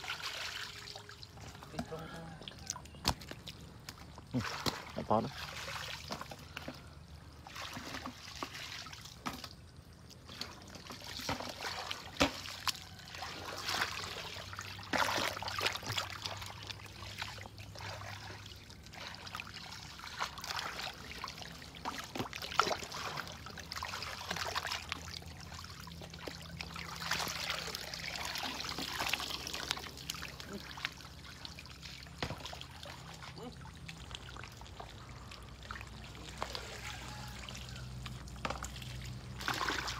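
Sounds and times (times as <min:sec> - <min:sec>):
muddy water splashing: 0:00.0 - 0:39.9.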